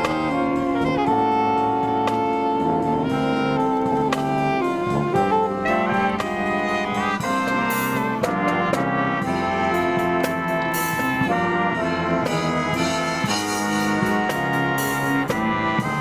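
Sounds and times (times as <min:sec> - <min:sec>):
brass marching band playing: 0:00.0 - 0:16.0.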